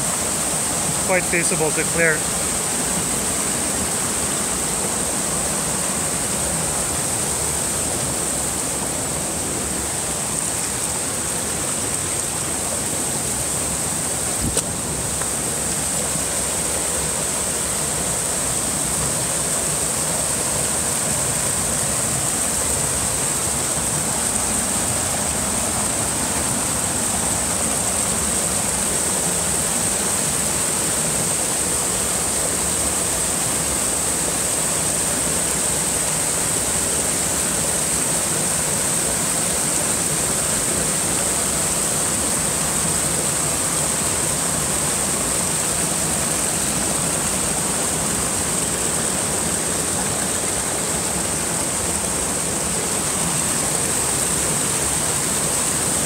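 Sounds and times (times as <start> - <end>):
stream rushing over boulders: 0.0 - 56.0.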